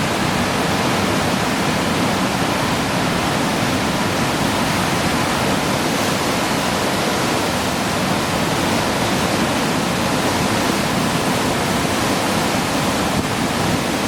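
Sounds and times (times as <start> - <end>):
heavy rain: 0.0 - 14.0
hurricane wind: 0.0 - 14.0.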